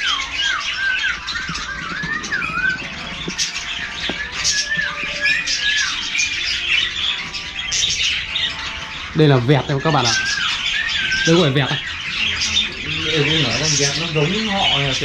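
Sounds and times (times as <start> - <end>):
budgerigars chattering: 0.0 - 15.0
wavering whistles: 0.0 - 15.0.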